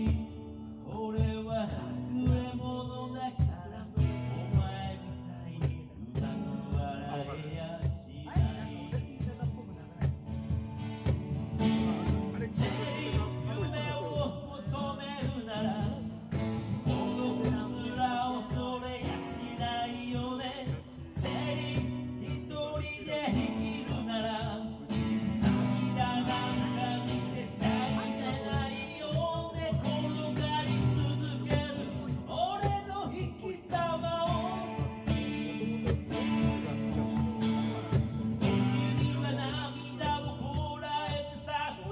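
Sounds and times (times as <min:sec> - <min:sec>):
cajon beat: 0:00.0 - 0:41.9
man singing: 0:00.0 - 0:41.9
strummed acoustic guitar: 0:00.0 - 0:41.9.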